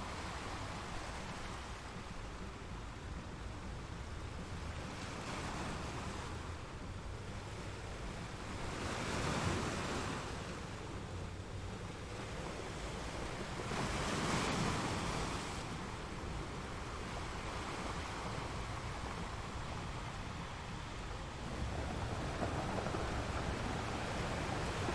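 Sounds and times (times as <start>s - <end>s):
big waves crashing: 0.0s - 24.9s
waves breaking: 0.0s - 24.9s
wind rumble on microphone: 0.0s - 24.9s.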